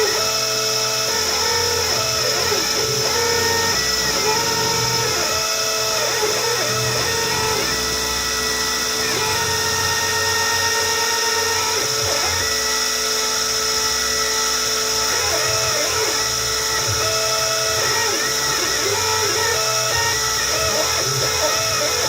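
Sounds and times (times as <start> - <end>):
spindle high whine: 0.0 - 22.0
stepper motors humming: 0.0 - 22.0.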